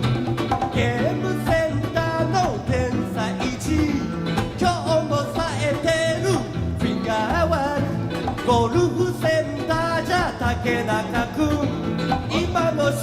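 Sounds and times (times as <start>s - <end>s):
guitar band music from cassette: 0.0s - 13.0s.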